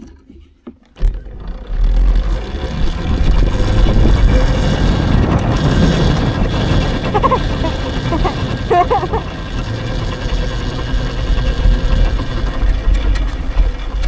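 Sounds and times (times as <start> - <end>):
vehicle rumbling: 2.2 - 14.0.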